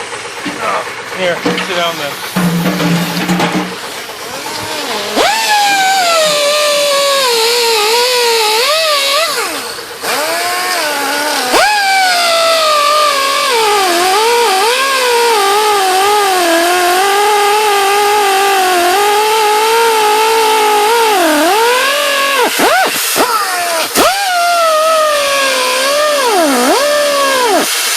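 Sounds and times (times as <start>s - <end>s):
power tool cutting fiberglass: 1.7s - 27.9s.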